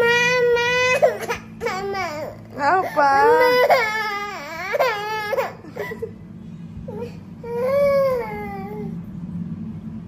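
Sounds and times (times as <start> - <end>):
toddler crying: 0.0 - 6.1, 6.9 - 8.9
steady low hum: 0.0 - 10.0.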